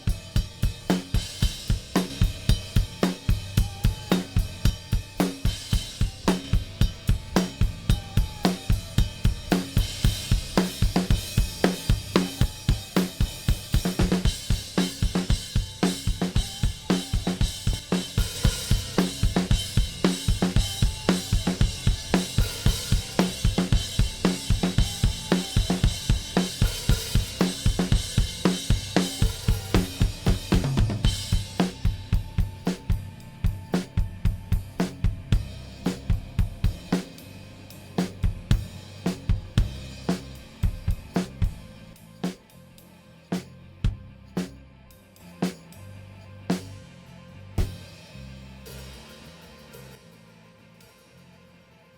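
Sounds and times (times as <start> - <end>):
compressed drum kit beat: 0.0 - 42.4.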